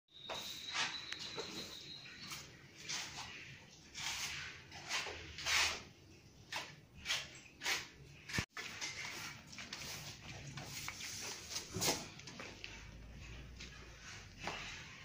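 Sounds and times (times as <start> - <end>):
broom sweeping tile floor: 0.1 - 15.0.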